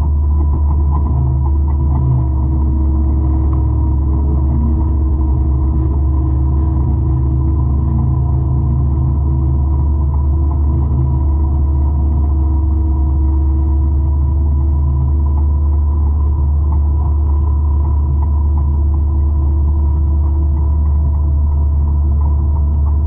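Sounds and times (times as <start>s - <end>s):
constant tones: 0.0s - 23.0s
deep engine drone: 0.0s - 23.0s.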